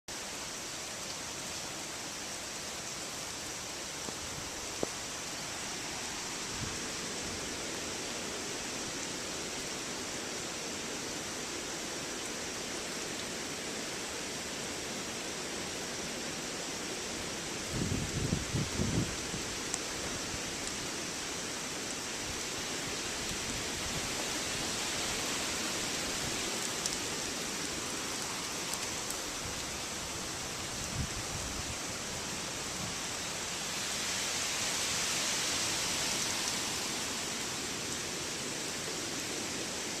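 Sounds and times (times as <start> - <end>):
heavy rain and wind hiss: 0.1 - 40.0.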